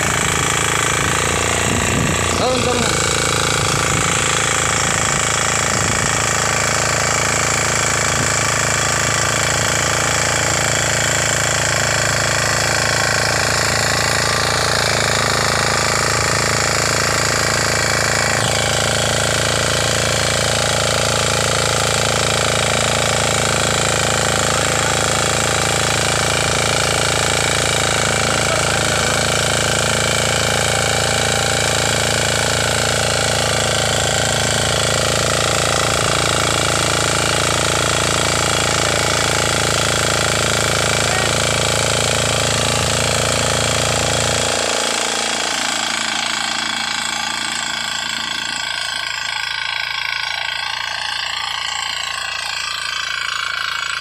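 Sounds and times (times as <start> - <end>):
power tiller engine running: 0.0 - 54.0.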